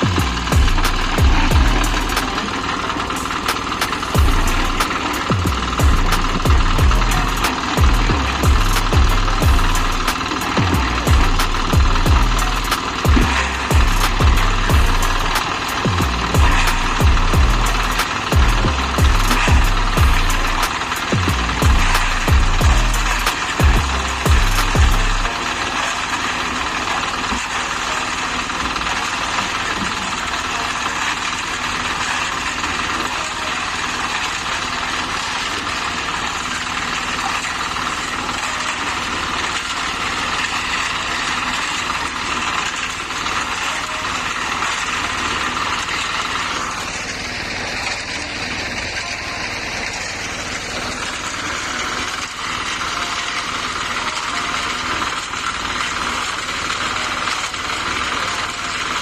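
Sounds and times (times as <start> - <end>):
concrete mixer engine running: 0.0 - 59.0.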